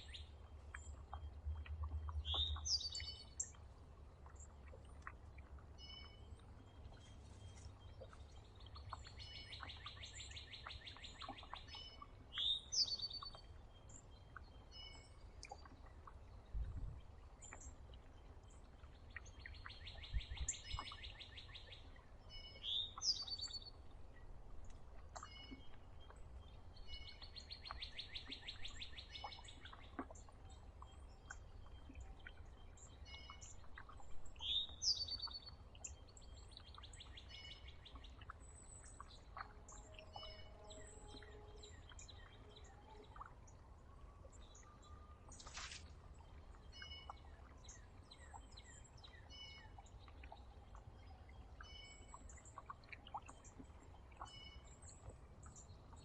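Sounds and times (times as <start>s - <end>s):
bird trilled song: 0.0s - 3.6s, 5.8s - 15.7s, 18.8s - 23.8s, 25.1s - 43.5s, 44.4s - 56.0s.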